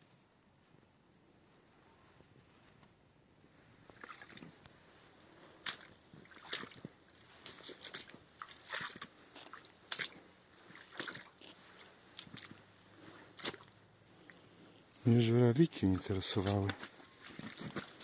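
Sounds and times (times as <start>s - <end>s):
footsteps in wet bog: 2.3s - 18.0s.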